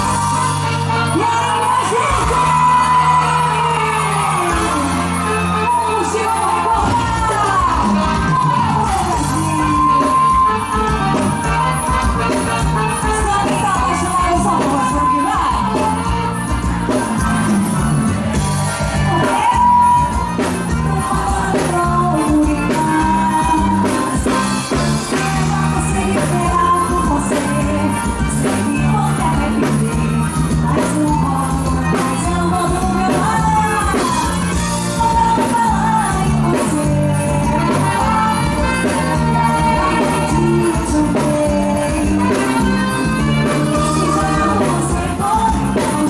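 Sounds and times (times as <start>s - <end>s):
live band music: 0.0s - 46.0s.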